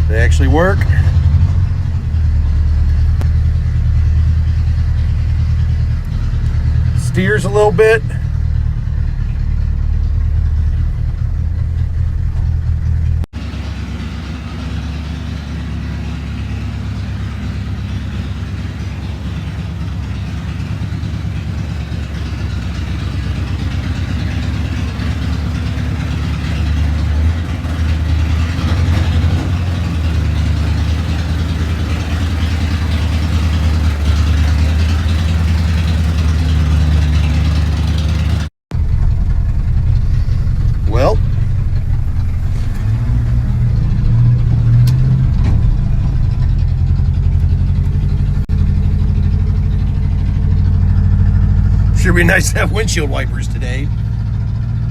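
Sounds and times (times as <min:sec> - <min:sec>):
road noise: 0:00.0 - 0:54.9
truck engine droning: 0:00.0 - 0:54.9.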